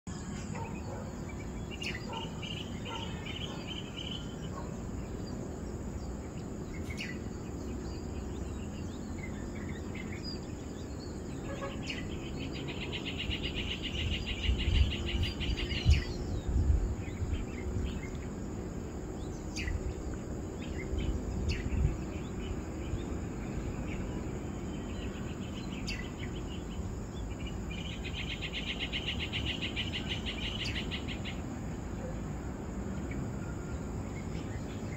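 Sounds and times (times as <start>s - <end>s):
insects trilling: 0.1s - 34.9s
outdoor background hiss: 0.1s - 34.9s.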